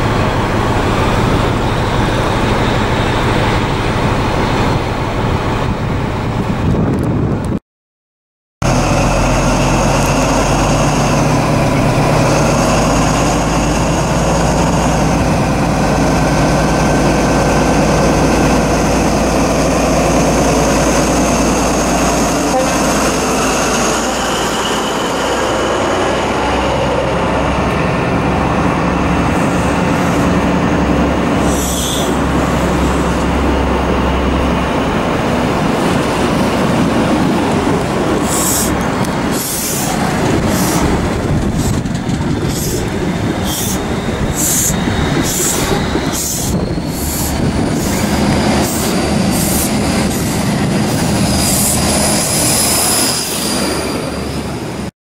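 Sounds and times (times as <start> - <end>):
diesel engine running: 0.0 - 7.3, 8.6 - 52.8
diesel train passing: 0.0 - 7.6, 8.6 - 54.9.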